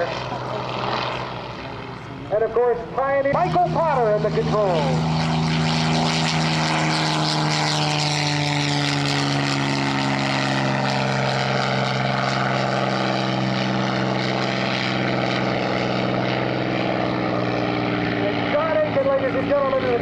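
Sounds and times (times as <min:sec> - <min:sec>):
propeller plane engine droning: 0:00.0 - 0:20.0.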